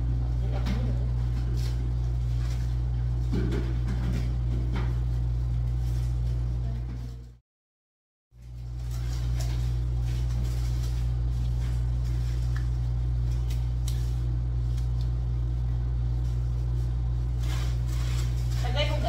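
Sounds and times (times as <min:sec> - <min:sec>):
steady low hum: 0:00.0 - 0:07.4, 0:08.4 - 0:19.0.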